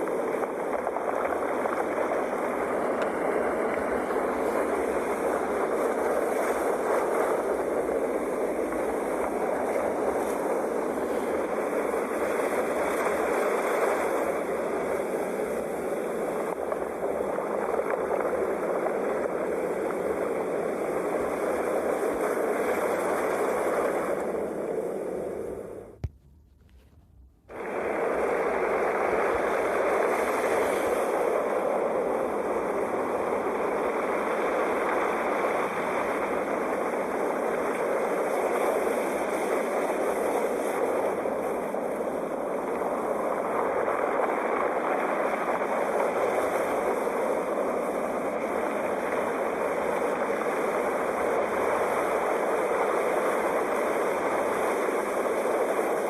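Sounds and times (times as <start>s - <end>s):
sea waves washing on shore: 0.0s - 25.9s, 27.5s - 56.0s.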